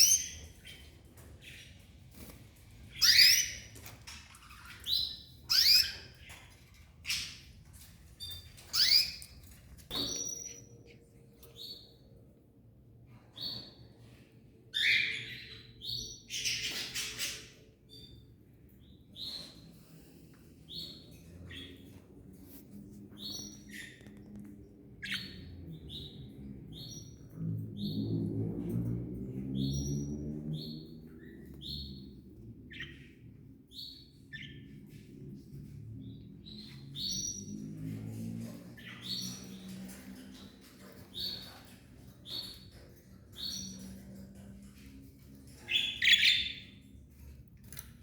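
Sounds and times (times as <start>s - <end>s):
cage birds chirping: 0.0s - 48.0s.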